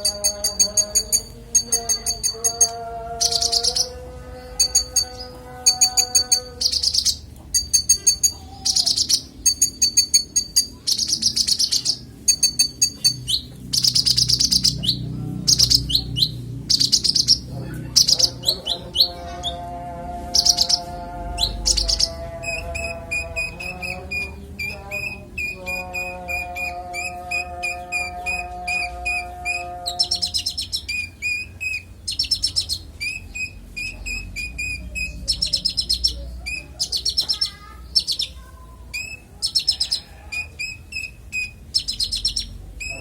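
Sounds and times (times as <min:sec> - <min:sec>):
sunbird singing: 0:00.0 - 0:19.7, 0:20.3 - 0:43.0.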